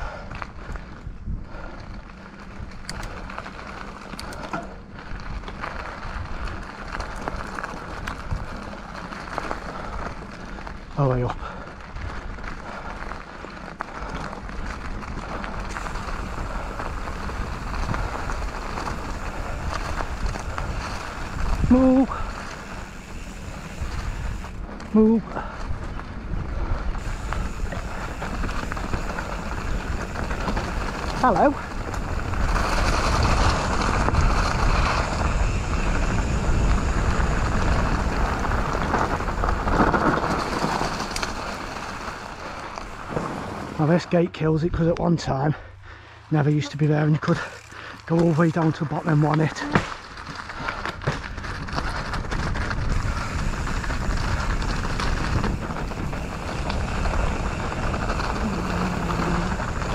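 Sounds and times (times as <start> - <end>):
wind buffeting microphone: 0.0 - 43.8, 50.2 - 59.9
bike tyres rolling over gravel: 0.0 - 59.9.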